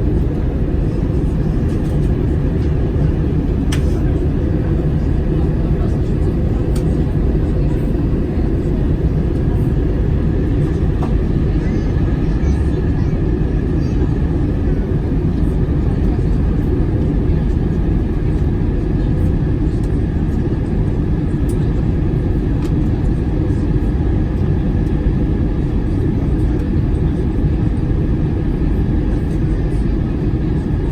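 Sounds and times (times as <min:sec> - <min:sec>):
airplane cabin engine noise: 0:00.0 - 0:30.9.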